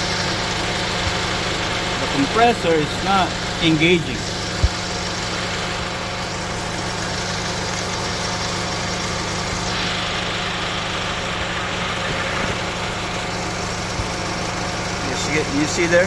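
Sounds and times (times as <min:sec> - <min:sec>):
air conditioning fan running: 0:00.0 - 0:16.0
car engine idling: 0:00.0 - 0:16.0.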